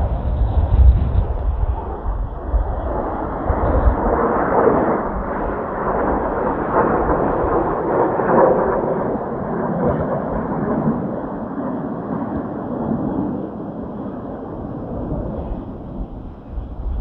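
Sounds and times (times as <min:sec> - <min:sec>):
jet roar flying over: 0:00.0 - 0:17.0
wind gusting on microphone: 0:00.0 - 0:17.0.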